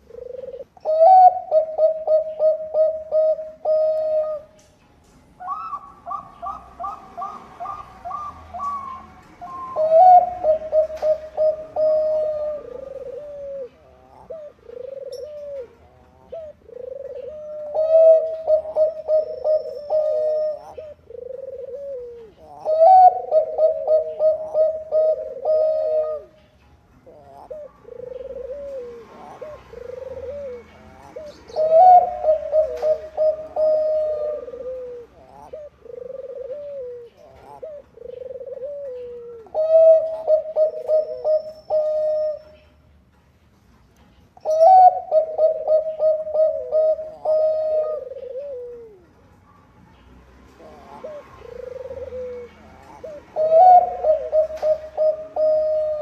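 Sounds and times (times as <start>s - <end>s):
doves cooing: 0.0s - 4.7s, 5.4s - 42.9s, 44.3s - 49.2s, 50.5s - 56.0s.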